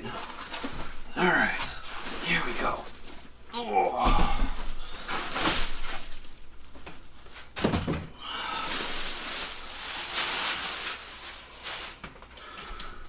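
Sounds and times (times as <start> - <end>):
plastic bag and foam rustling: 0.0 - 12.8.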